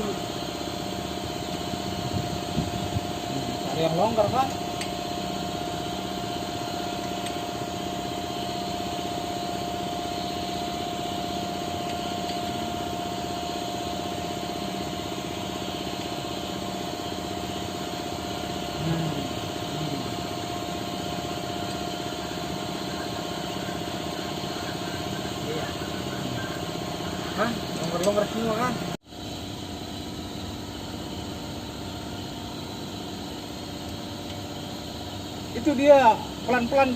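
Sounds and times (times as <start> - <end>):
high whine: 0.0 - 36.9
machine humming: 0.0 - 36.9.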